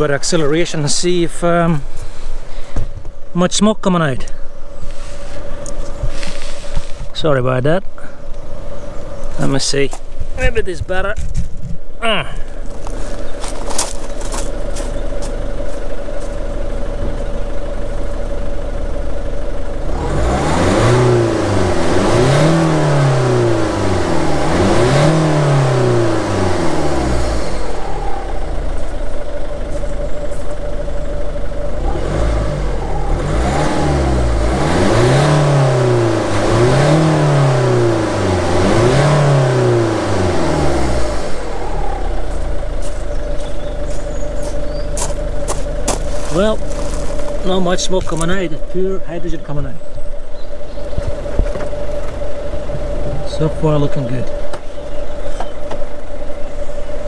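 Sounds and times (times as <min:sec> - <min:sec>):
diesel engine idling and revving: 0:00.0 - 0:57.0.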